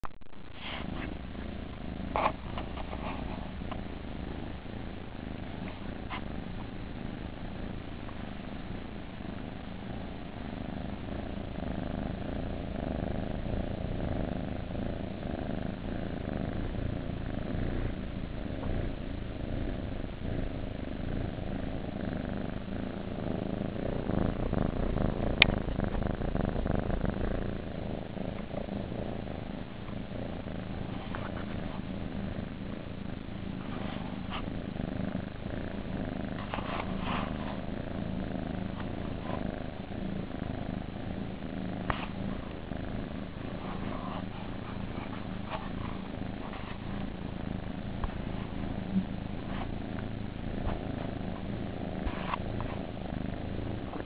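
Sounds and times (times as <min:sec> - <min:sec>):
kittens purring: 0:00.0 - 0:54.0.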